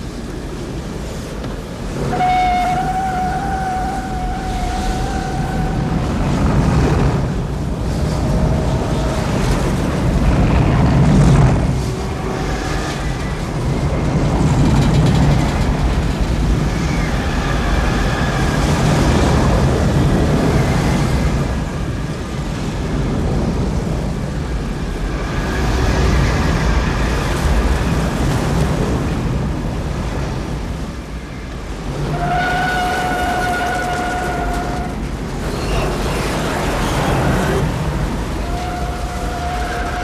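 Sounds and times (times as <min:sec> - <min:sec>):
roaring wind: 0:00.0 - 0:40.0.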